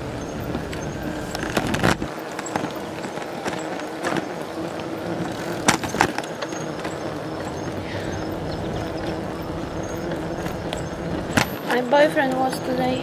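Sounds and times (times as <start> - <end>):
bicycle rolling noise: 0.0 - 13.0.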